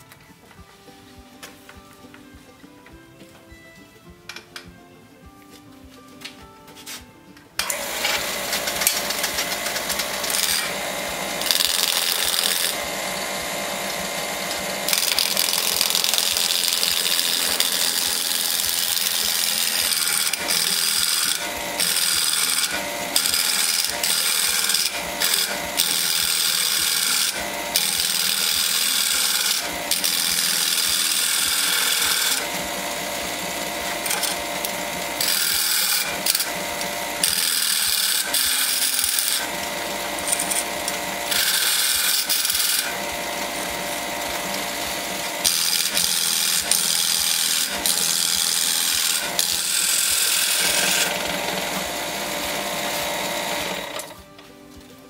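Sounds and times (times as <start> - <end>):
turning tool cutting wood: 7.6 - 54.4
wood lathe spinning: 7.6 - 54.5.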